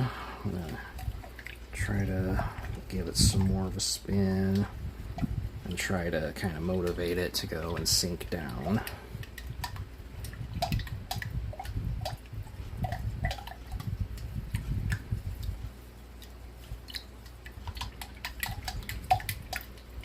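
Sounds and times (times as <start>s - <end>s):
water swirling: 0.0s - 20.0s.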